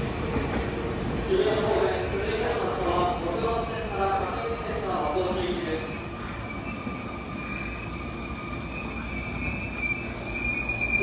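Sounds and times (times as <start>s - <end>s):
electric train high whine: 0.0s - 11.0s
wheels rumbling on rail: 0.0s - 11.0s.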